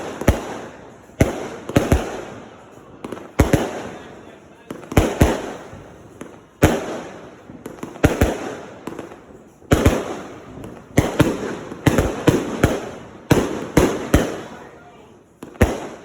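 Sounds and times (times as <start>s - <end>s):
firework bangs with crackle: 0.0s - 16.0s.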